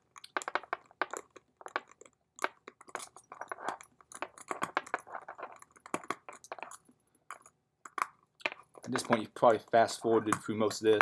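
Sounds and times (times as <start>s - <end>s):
metal parts clicking and rattling: 0.0s - 9.2s.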